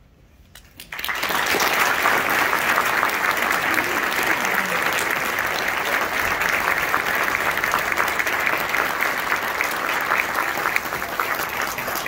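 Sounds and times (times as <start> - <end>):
audience applauding: 0.8 - 12.0.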